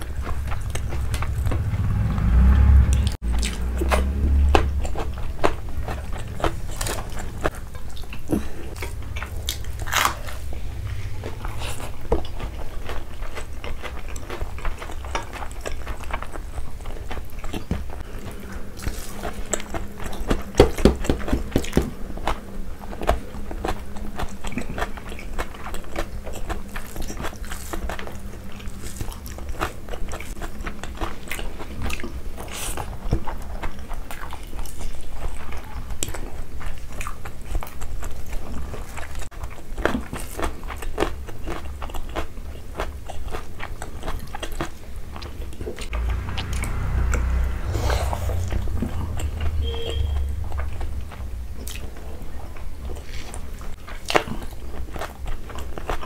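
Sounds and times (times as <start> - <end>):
person chewing food: 0.0 - 2.3, 2.9 - 47.0, 50.6 - 56.0.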